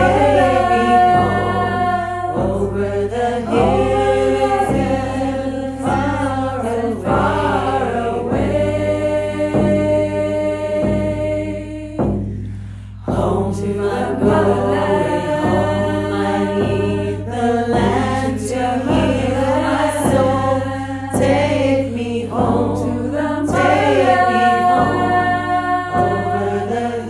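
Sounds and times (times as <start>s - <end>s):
voices singing together: 0.0s - 27.0s.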